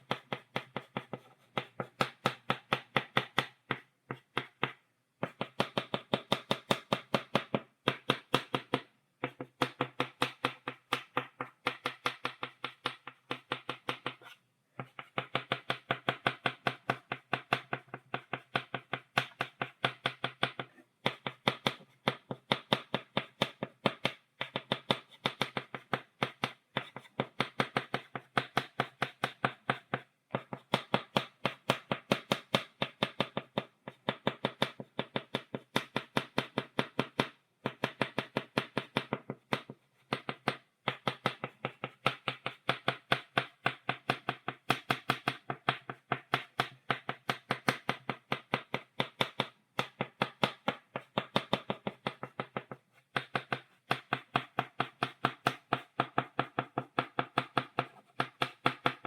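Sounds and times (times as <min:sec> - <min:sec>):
chalk tapping on blackboard: 0:00.0 - 0:59.0.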